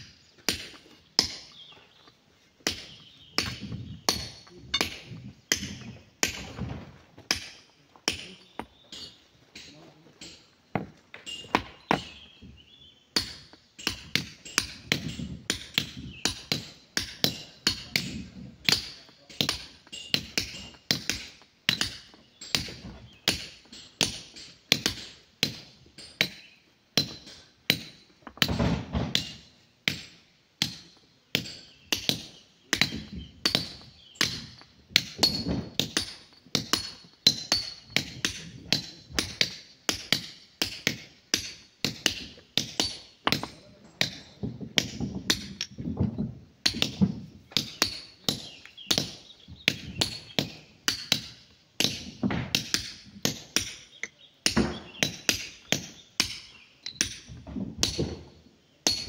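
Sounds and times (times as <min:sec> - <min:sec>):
hand hammers striking stone: 0:02.6 - 0:06.4, 0:13.2 - 0:26.4, 0:27.0 - 0:45.9, 0:46.6 - 0:58.1.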